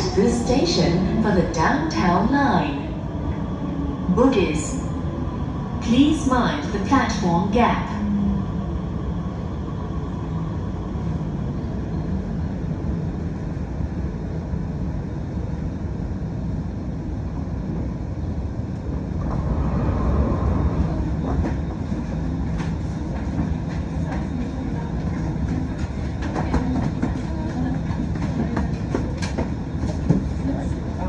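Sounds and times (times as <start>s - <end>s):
train low rumble: 0.0s - 31.0s.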